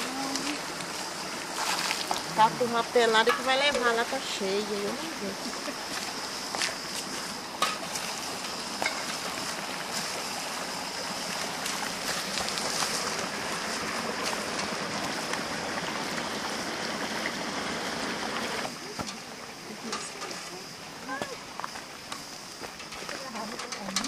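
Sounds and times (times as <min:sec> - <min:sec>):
stream water running: 0:00.0 - 0:24.0.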